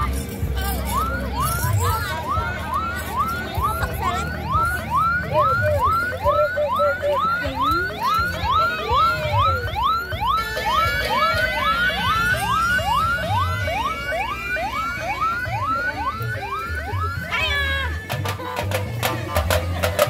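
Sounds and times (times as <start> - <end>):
high held tones: 0.0 - 20.0
music with pulsing bass: 0.0 - 20.0
electronic siren yelping: 0.6 - 18.4.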